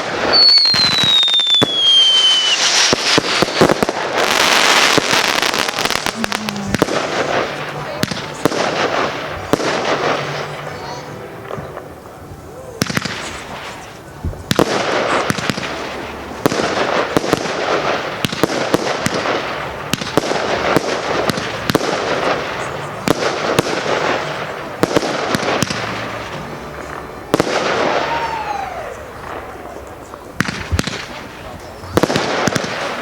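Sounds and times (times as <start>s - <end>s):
firework barrage bangs: 0.0s - 10.8s, 12.8s - 33.0s
firework crackling: 0.0s - 33.0s.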